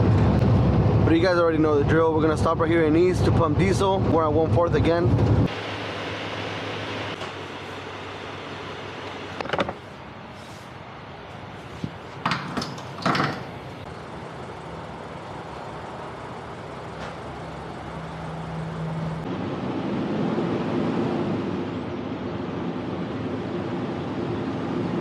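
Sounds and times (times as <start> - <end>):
truck engine and road drone: 0.0 - 25.0.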